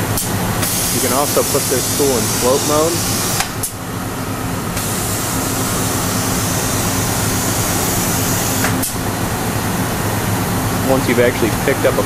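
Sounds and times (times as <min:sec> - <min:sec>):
industrial machine hum: 0:00.0 - 0:12.0.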